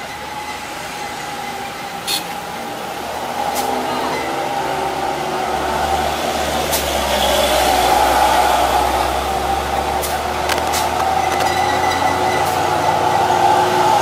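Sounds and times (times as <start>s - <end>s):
truck diesel engine labouring: 0.0s - 14.0s.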